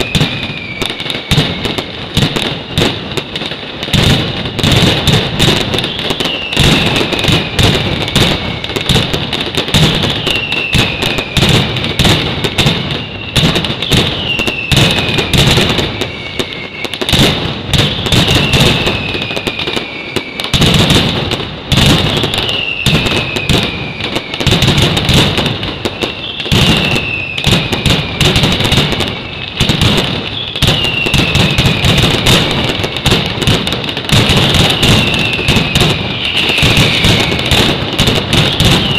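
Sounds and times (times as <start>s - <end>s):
falling firework whistle: 0.0s - 38.9s
firecracker bangs: 0.0s - 38.9s.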